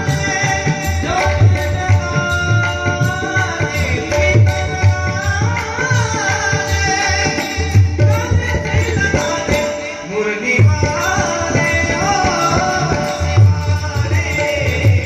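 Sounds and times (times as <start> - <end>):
hand drums playing: 0.0 - 15.0
man singing devotional song: 0.0 - 15.0.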